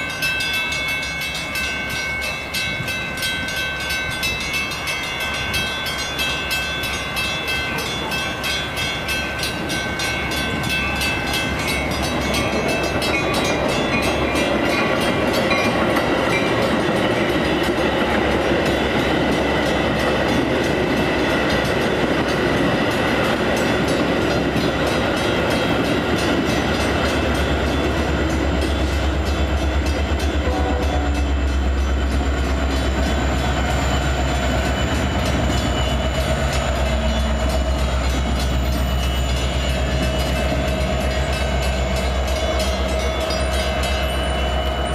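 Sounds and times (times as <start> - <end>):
locomotive engine drone: 0.0 - 44.9
train wheels clicking over rail joints: 2.8 - 44.9.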